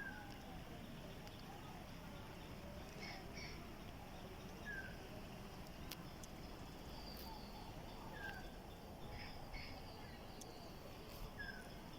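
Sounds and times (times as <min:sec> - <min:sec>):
faint outdoor background noise: 0:00.0 - 0:11.9.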